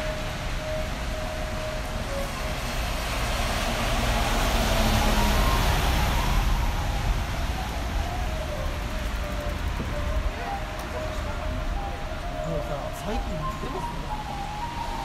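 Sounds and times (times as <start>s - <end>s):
vehicle passing on wet street: 0.0s - 15.0s.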